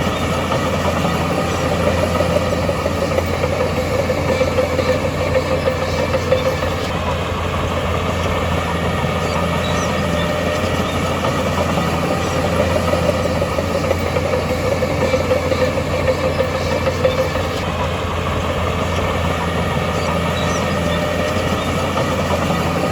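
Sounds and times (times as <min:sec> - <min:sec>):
heavy diesel engine droning: 0:00.0 - 0:22.9.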